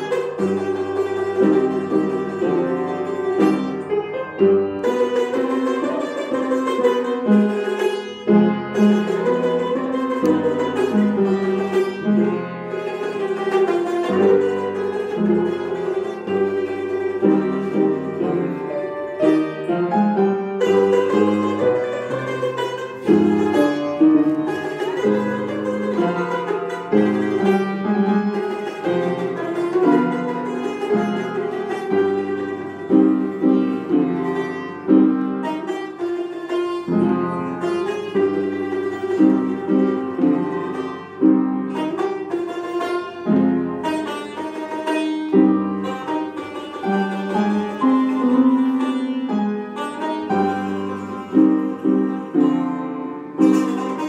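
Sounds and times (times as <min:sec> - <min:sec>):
plucked string instrument solo: 0:00.0 - 0:54.0.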